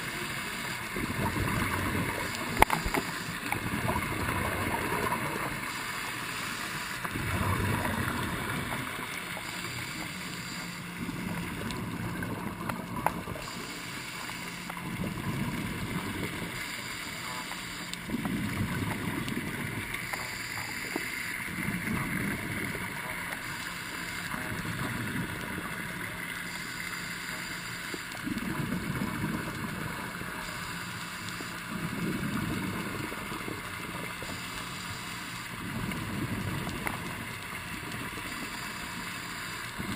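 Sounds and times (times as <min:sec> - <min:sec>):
regulator bubbles underwater: 0:00.0 - 0:39.9
steady low hum: 0:00.0 - 0:39.9.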